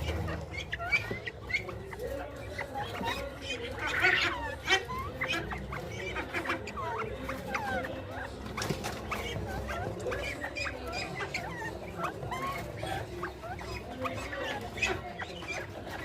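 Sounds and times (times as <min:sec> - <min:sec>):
quail chirping and peeping: 0:00.0 - 0:16.0.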